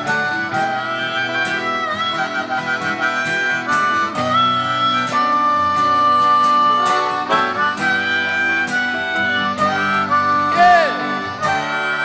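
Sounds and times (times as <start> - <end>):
acoustic guitar: 0.0 - 12.0
electric guitar: 0.0 - 12.0
harmonica solo: 0.0 - 12.0.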